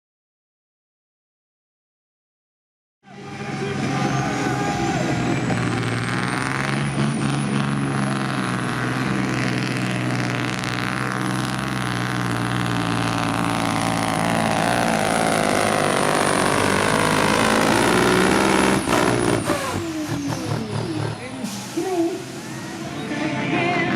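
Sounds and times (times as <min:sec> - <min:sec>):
diesel engine running hard: 0:03.1 - 0:23.9.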